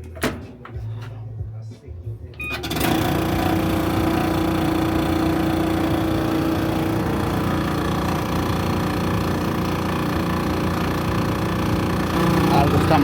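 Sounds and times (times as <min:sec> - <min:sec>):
dryer running: 0:00.0 - 0:13.0
strong hum: 0:00.2 - 0:13.0.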